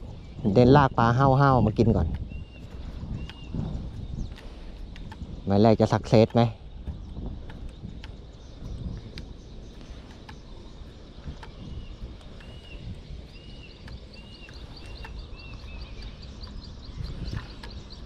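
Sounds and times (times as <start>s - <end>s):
low rumble: 0.0s - 18.0s
faint fast ticking: 0.9s - 18.0s
light clicks: 1.8s - 18.0s.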